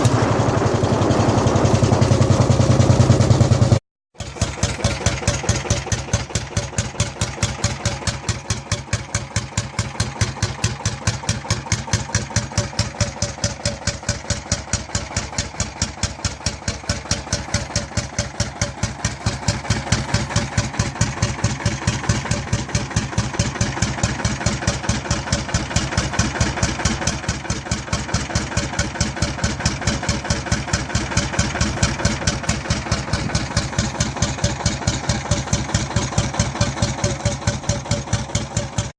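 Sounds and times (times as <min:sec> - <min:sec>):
tractor engine thudding: 0:00.0 - 0:38.9.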